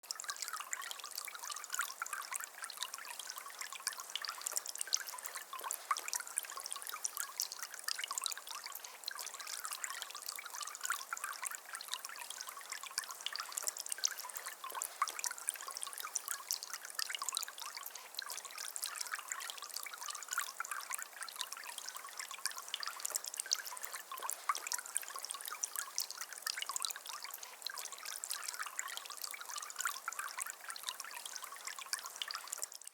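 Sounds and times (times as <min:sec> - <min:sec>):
fountain water trickling and splashing: 0:00.0 - 0:32.9.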